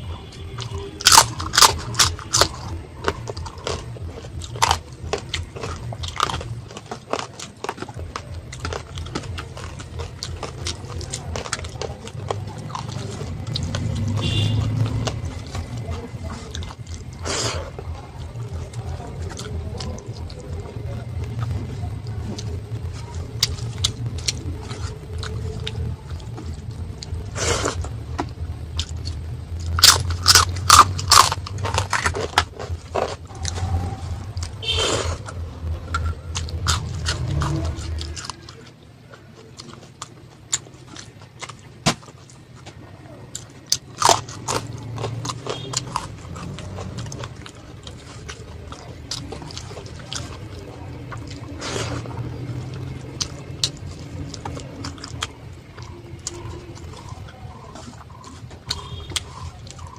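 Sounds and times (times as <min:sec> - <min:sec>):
chewing crisp fried food: 0:00.0 - 0:59.9.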